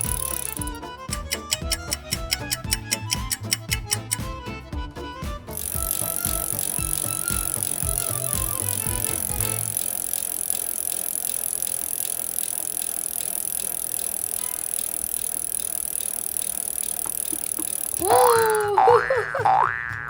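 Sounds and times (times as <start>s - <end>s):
toy spinner whirring and ticking: 0.0s - 20.0s.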